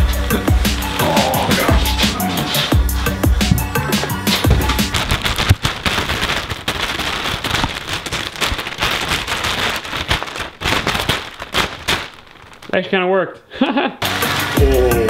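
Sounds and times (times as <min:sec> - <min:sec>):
plastic bags crinkling: 0:00.9 - 0:13.0.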